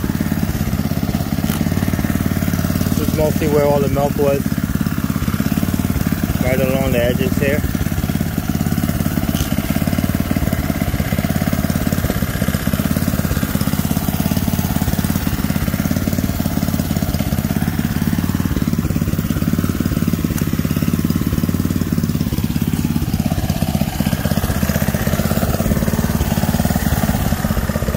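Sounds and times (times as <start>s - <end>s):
small engine humming: 0.0s - 27.9s.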